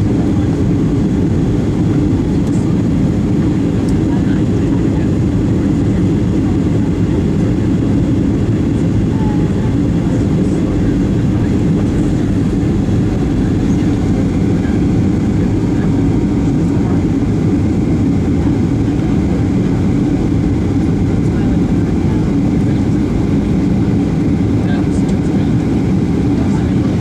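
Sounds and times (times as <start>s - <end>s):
jet engines and rushing airflow: 0.0s - 27.0s.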